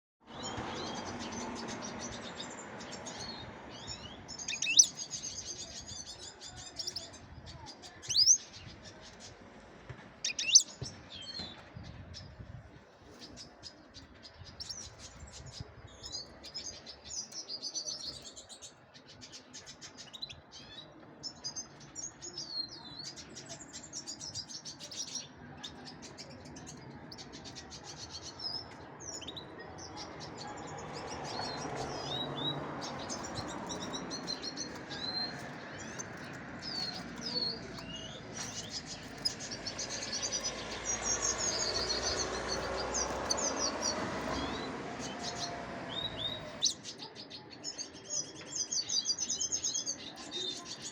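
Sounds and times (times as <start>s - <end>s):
small birds chirping: 0.2s - 50.9s.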